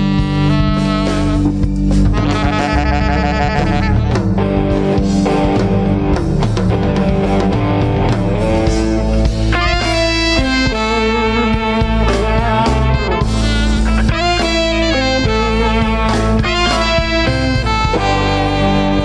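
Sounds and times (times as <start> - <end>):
alto saxophone long notes: 0.0 - 19.0
drum kit: 0.0 - 19.0
electric bass: 0.0 - 19.0
electric guitar: 0.0 - 19.0.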